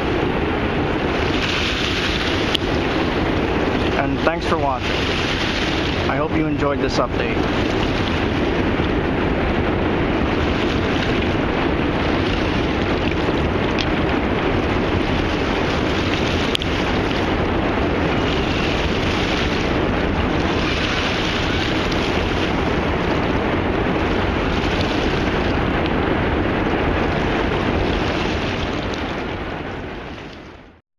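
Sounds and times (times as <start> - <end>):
wind rushing on microphone: 0.0 - 30.8.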